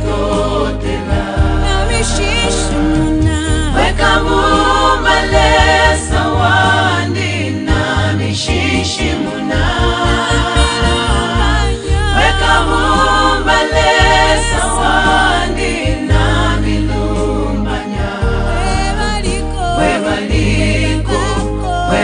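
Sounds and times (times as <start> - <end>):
choir singing a worship song: 0.0 - 22.0.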